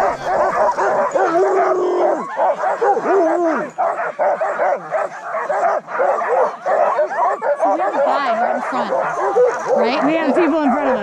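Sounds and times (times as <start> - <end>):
dogs yipping and barking: 0.0 - 11.0.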